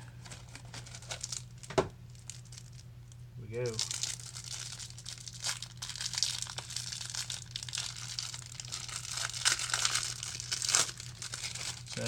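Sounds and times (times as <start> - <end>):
packaging being torn and crinkled: 0.2 - 2.9, 3.6 - 12.0.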